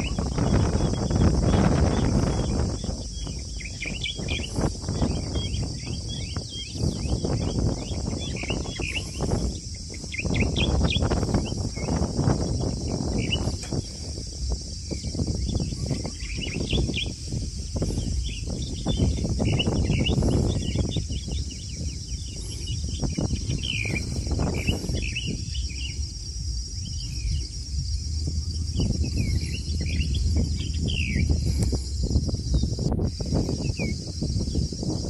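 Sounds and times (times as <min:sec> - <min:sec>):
birds chirping: 0:00.0 - 0:35.0
low rumble: 0:00.0 - 0:35.0.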